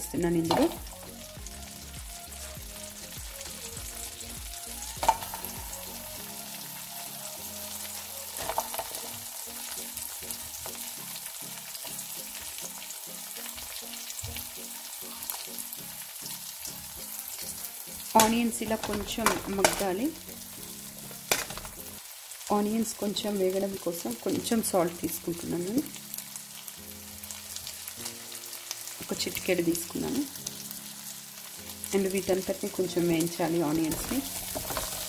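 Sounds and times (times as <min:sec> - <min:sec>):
onions sizzling in a pan: 0:00.0 - 0:35.0.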